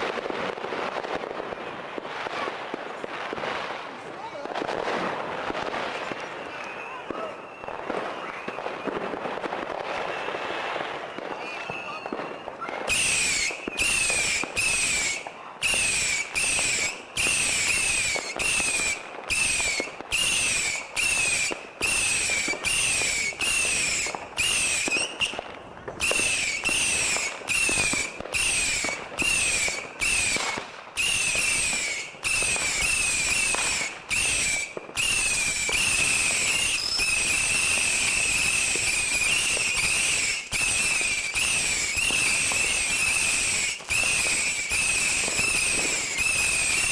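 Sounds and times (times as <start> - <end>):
fireworks crackling: 0.0 - 46.9
fireworks whistling: 0.0 - 46.9.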